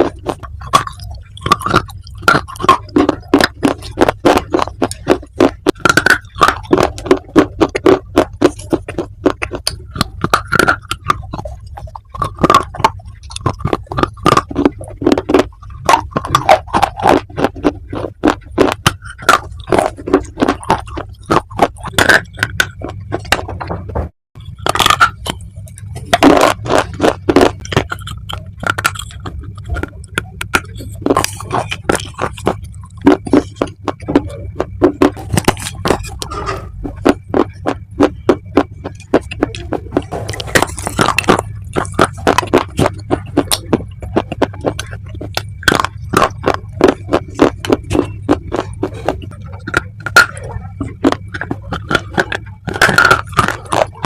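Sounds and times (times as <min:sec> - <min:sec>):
crunchy chewing close up: 0:00.0 - 0:54.0.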